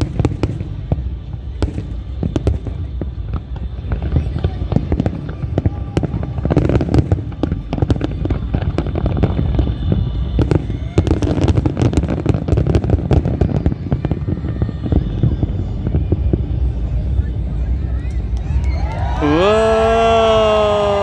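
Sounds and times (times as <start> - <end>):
fireworks cracking and banging: 0.0 - 15.0, 18.3 - 21.0.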